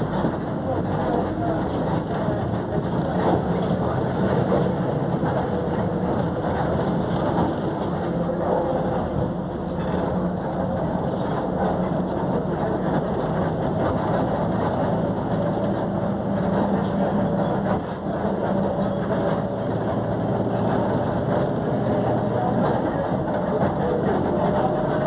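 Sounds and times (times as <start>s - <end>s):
bus differential droning: 0.0s - 25.0s
bus running noise: 0.0s - 25.0s.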